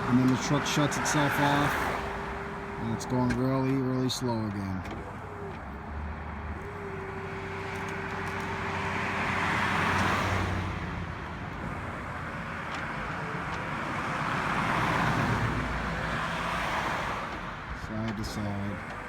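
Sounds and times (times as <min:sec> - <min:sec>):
road vehicles passing: 0:00.0 - 0:19.0.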